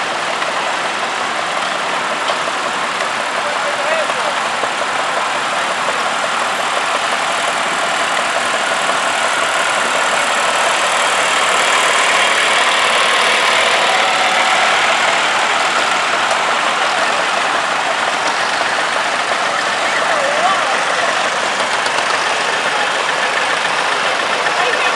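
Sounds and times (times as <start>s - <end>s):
tractor engines driving past: 0.0s - 24.9s.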